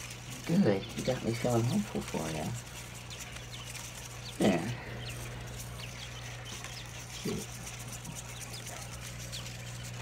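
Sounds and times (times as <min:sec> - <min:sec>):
chicks peeping: 0:00.0 - 0:10.0
steady low hum: 0:00.0 - 0:10.0.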